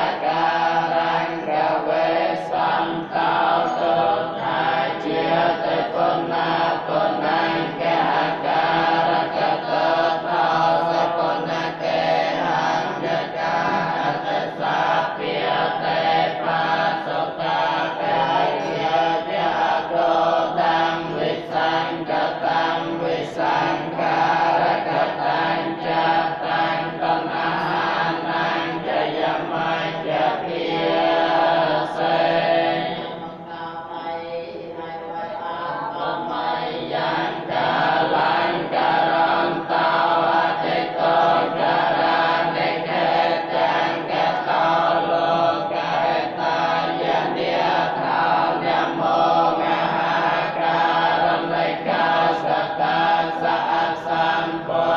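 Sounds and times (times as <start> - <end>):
monks chanting in unison: 0.0 - 54.9.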